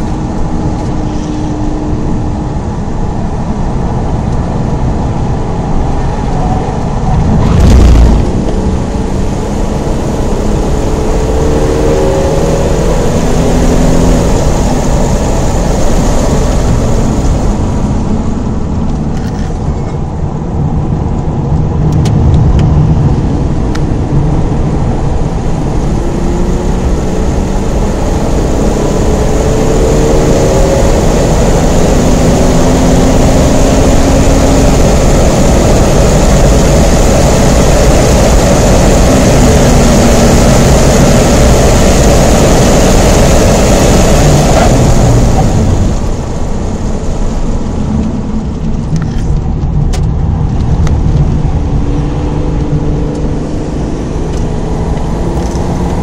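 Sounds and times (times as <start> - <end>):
car engine revving: 0.0 - 19.4, 20.6 - 56.0
road and wind noise: 0.0 - 56.0.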